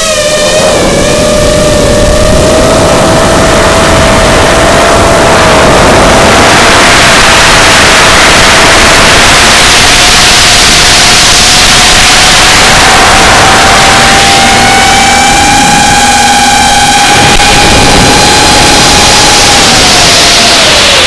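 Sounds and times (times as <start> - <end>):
drone motors whining: 0.0 - 21.0
wind and propeller rush: 0.0 - 21.0.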